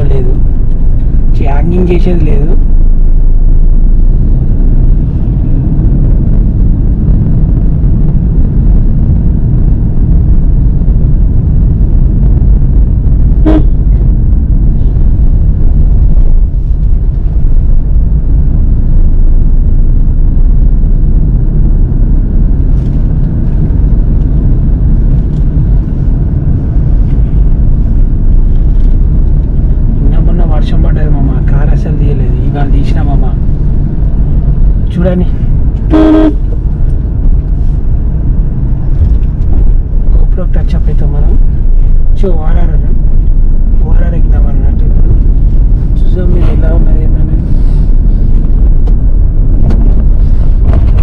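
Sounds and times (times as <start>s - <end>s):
car driving low rumble: 0.0s - 51.0s.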